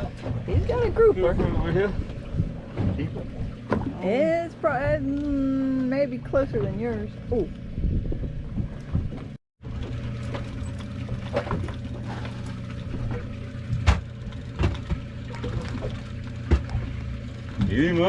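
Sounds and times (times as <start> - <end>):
boat motor humming: 0.0 - 18.0
water sloshing: 0.0 - 18.0.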